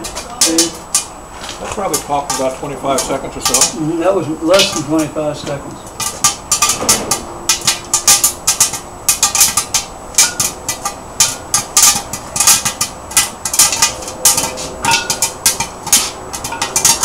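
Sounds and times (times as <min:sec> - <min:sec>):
popcorn popping: 0:00.0 - 0:17.0.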